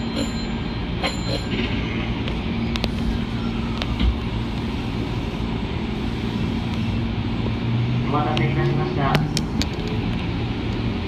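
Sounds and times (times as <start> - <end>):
train car rumble and hum: 0.0 - 11.0.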